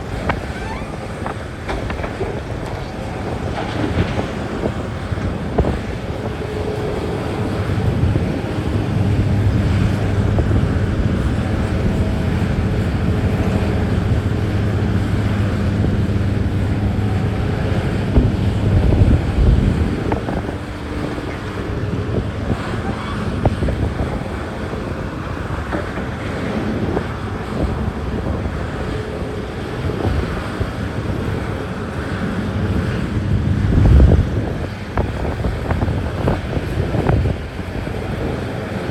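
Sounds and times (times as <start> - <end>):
heavy diesel machinery drone: 0.0 - 38.9
wind buffeting microphone: 0.0 - 38.9.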